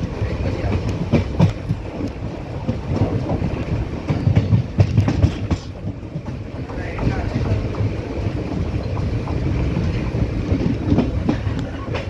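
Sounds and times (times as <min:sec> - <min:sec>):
train rumbling along track: 0:00.0 - 0:12.0
wheel clacks over rail joints: 0:00.0 - 0:12.0.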